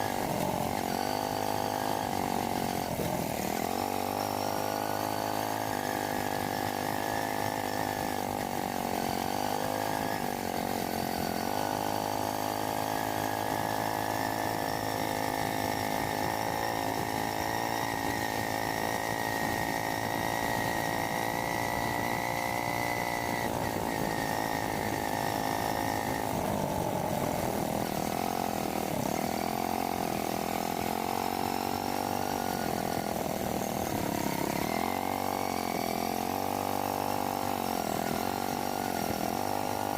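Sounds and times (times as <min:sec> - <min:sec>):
small motorcycle engine running: 0:00.0 - 0:39.9.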